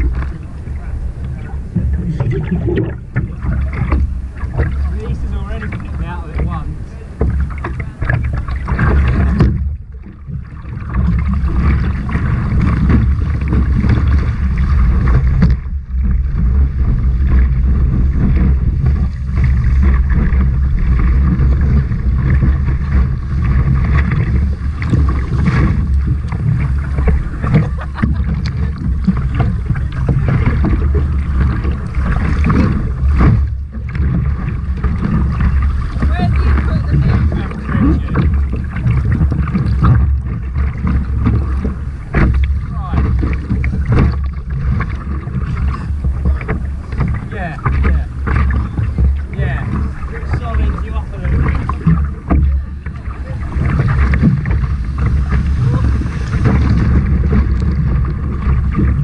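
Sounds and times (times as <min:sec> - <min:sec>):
water rushing and splashing: 0:00.0 - 0:59.0
wind buffeting microphone: 0:00.0 - 0:59.0.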